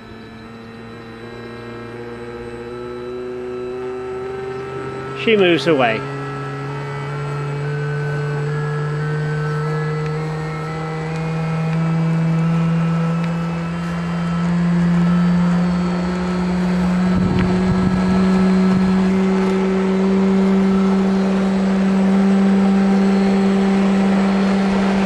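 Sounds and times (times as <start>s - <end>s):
electric locomotive hum: 0.0s - 25.0s.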